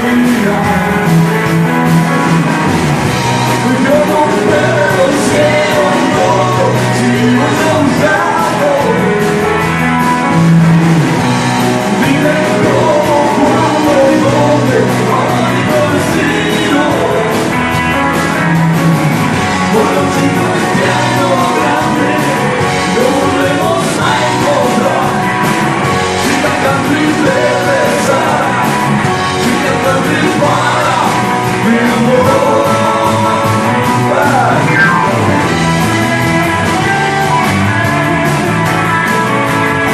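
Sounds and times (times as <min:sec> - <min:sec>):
person singing: 0:00.0 - 0:02.3, 0:03.3 - 0:09.8, 0:11.6 - 0:18.4, 0:19.3 - 0:37.5
guitar: 0:00.0 - 0:39.9
rock and roll song: 0:00.0 - 0:39.9
steady drum beat: 0:00.0 - 0:39.9.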